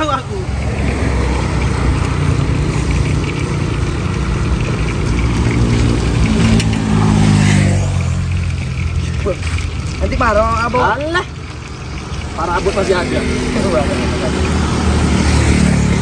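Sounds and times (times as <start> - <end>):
vehicle engine passing by: 0.0 - 16.0.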